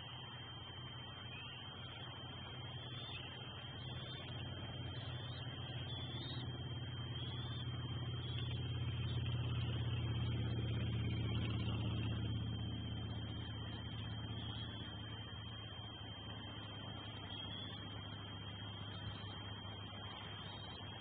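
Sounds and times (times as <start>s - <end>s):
vehicle driving past: 0.0s - 21.0s.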